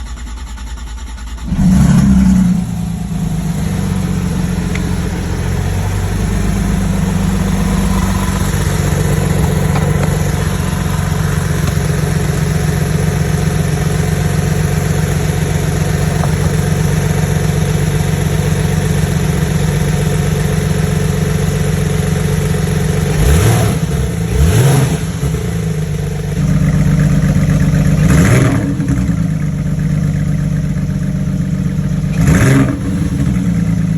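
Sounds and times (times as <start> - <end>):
car engine starting and idling: 0.0 - 33.9
engine throttle blips: 0.0 - 33.9.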